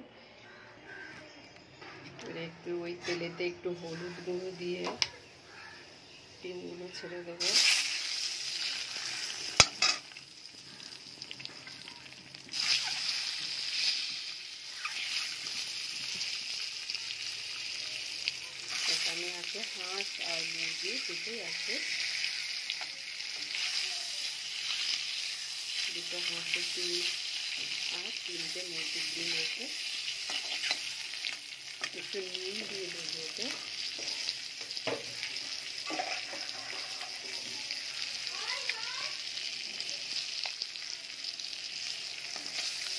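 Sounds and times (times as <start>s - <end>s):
eggs sizzling in oil: 3.0s - 42.9s.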